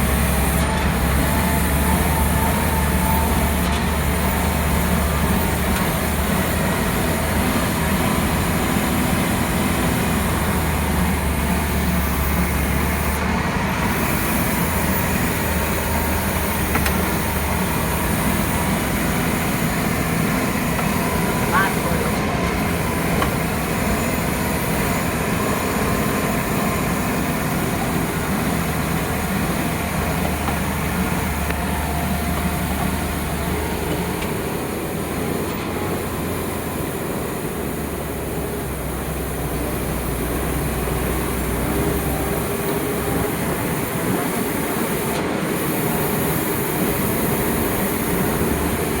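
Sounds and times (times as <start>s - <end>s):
heavy truck engine rumbling: 0.0s - 49.0s.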